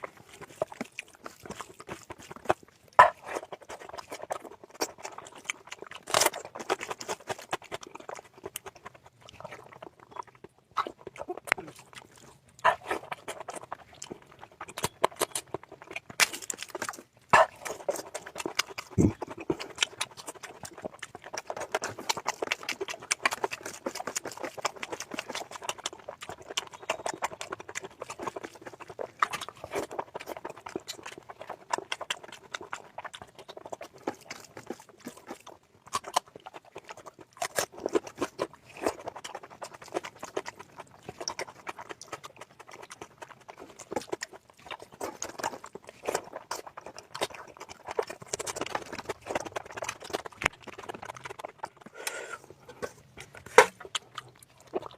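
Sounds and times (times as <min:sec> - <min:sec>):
chewing and mouth smacking: 0:00.0 - 0:54.9.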